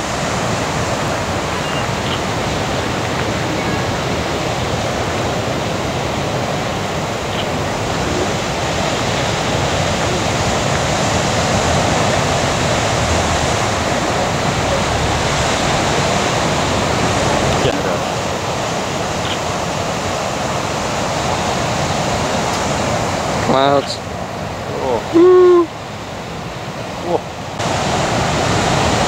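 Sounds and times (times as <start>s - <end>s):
ocean surf breaking: 0.0s - 29.0s.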